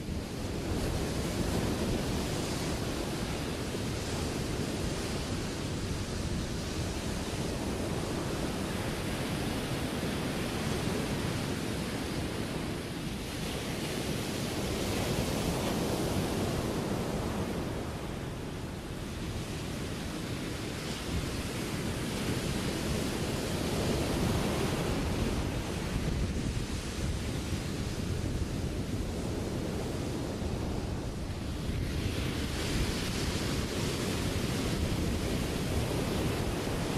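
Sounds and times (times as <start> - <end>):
ocean surf breaking: 0.0 - 36.9
wind on microphone: 0.0 - 36.9.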